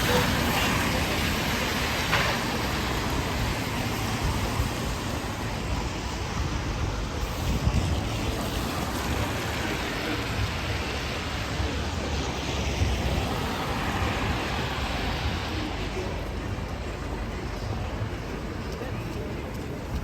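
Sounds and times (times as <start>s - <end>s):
rainfall: 0.0s - 20.0s
traffic on a wet road: 0.0s - 20.0s.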